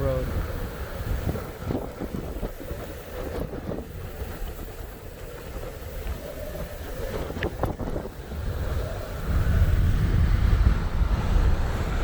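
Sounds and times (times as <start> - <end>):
wind against car low rumble: 0.0 - 12.0.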